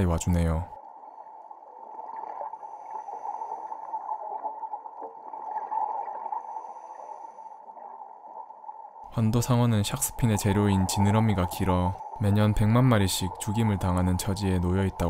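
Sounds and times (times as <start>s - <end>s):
faint bubbling: 0.0s - 15.0s
muffled underwater rushing: 0.0s - 15.0s.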